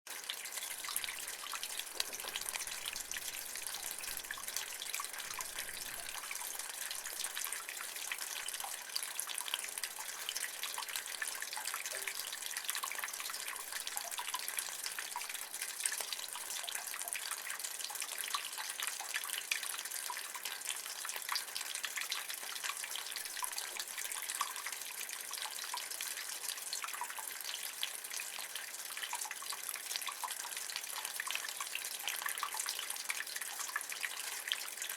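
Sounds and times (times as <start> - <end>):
rainwater running from gutter: 0.1 - 34.9.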